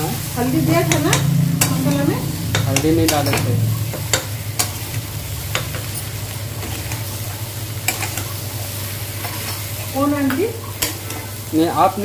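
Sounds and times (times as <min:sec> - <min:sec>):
curry sizzling: 0:00.0 - 0:12.0.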